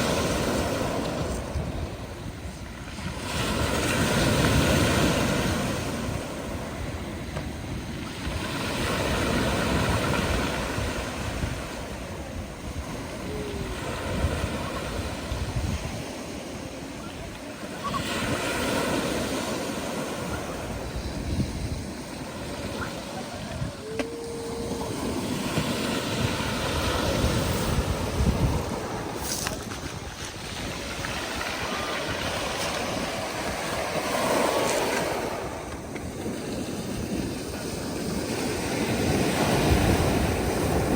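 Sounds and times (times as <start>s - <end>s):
surf breaking on shore: 0.0s - 40.9s.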